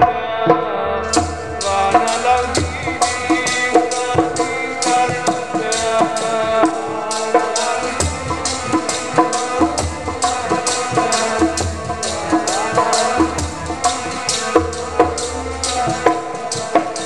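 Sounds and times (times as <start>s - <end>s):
harmonium melody: 0.7s - 17.0s
hand drum rhythm: 1.2s - 17.0s.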